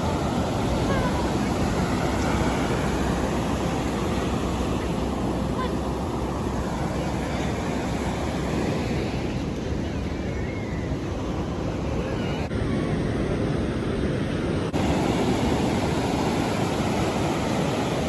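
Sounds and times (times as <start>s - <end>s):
ocean surf washing: 0.0s - 18.0s.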